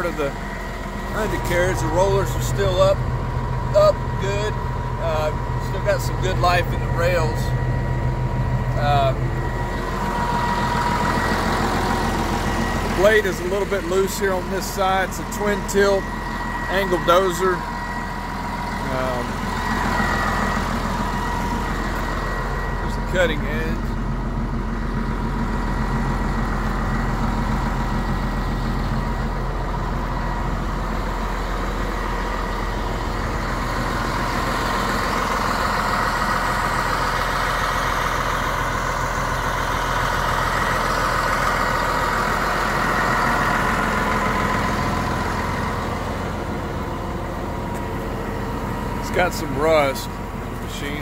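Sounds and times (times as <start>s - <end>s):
diesel engine idling: 0.0s - 51.0s.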